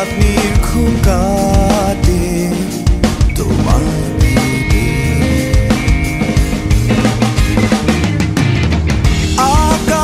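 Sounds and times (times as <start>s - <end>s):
rock song with drums: 0.0s - 10.0s.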